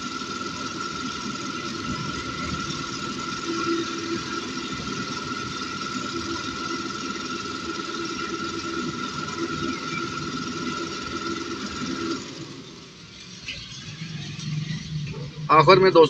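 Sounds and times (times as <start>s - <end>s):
coil winding machine humming: 0.0s - 16.0s.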